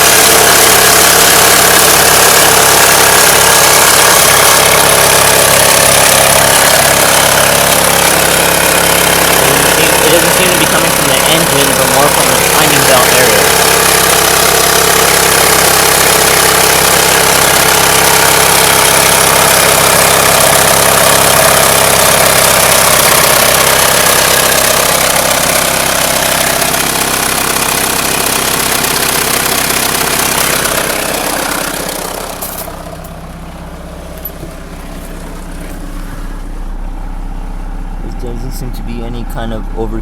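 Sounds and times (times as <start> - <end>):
car engine idling: 0.0 - 40.0
rapid engine knocking: 0.0 - 40.0.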